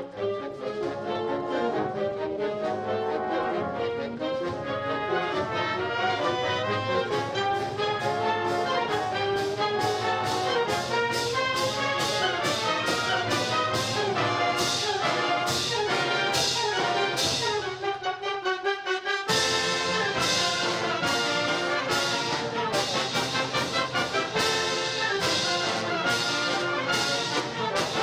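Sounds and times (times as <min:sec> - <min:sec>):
wind orchestra playing: 0:00.0 - 0:28.0.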